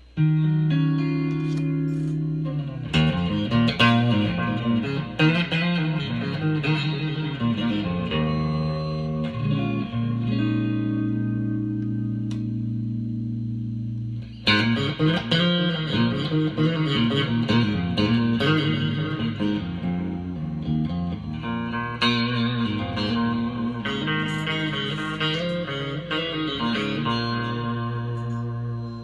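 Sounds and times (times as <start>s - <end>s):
electric guitar playing: 0.0s - 29.0s.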